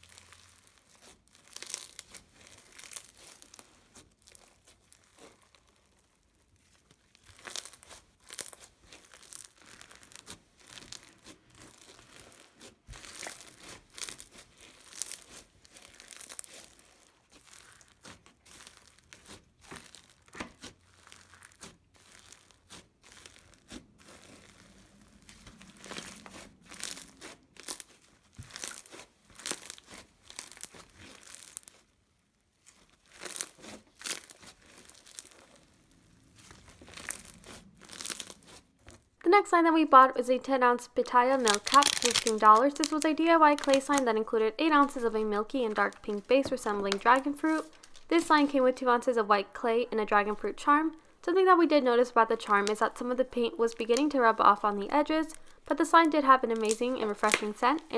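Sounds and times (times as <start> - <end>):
crunchy slime being squeezed: 0.0 - 39.1, 41.3 - 48.5, 53.8 - 57.9.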